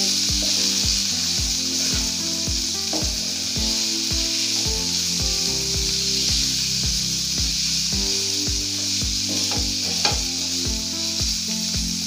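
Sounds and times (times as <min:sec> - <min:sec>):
background music with beat: 0:00.0 - 0:12.0
chicken sizzling in pan: 0:00.0 - 0:12.0.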